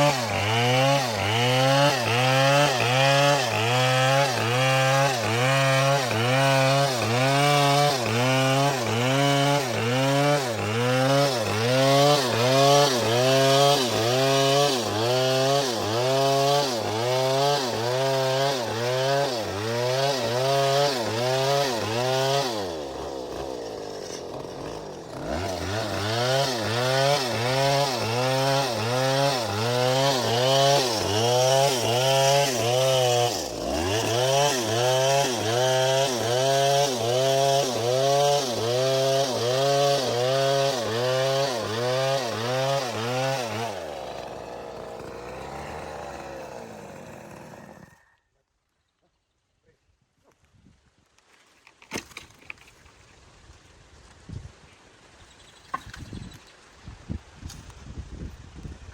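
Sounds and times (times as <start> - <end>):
chainsaw cutting wood: 0.0 - 48.2, 51.6 - 52.9.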